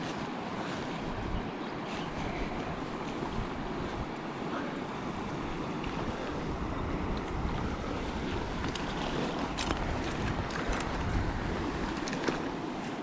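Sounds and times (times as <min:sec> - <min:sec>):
stream water rushing: 0:00.0 - 0:13.0
wind buffeting microphone: 0:00.0 - 0:13.0.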